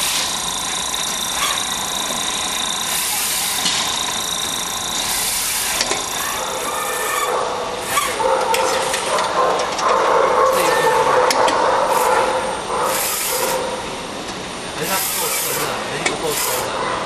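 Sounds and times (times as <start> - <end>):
machine high whine: 0.0 - 17.0.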